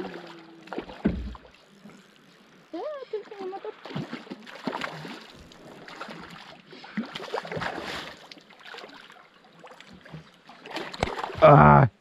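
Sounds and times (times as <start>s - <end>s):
water splashing: 0.0s - 11.8s.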